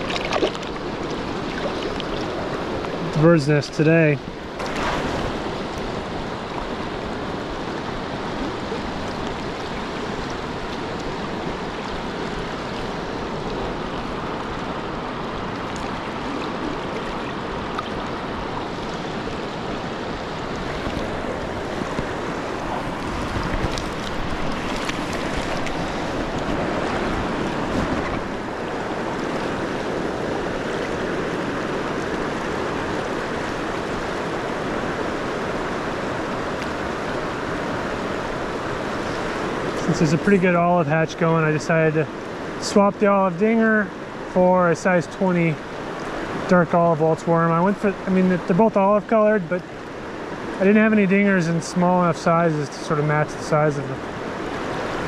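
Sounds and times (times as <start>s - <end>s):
river rushing over rocks: 0.0s - 43.3s, 43.9s - 55.0s.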